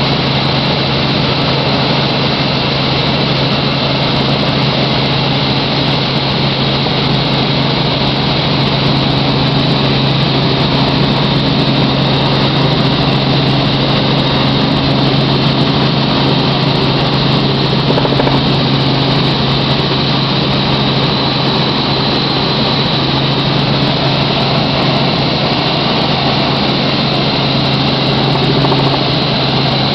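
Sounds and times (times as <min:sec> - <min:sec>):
helicopter engine and rotor: 0:00.0 - 0:29.9.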